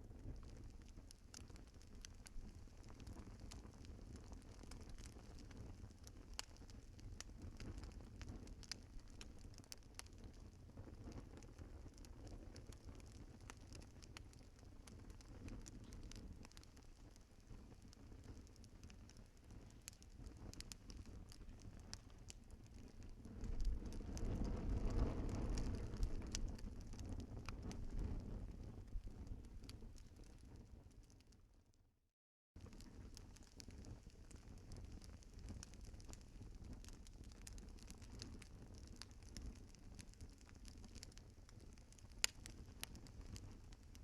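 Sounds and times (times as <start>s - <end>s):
wood fire crackling: 0.0s - 31.5s, 32.6s - 44.0s
sharp pops from fire: 0.2s - 31.3s, 32.6s - 44.0s.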